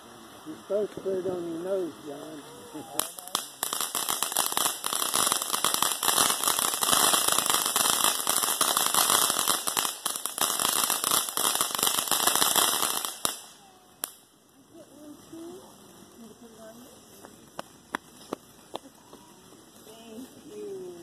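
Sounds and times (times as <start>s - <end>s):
firework crackling: 0.0s - 21.0s.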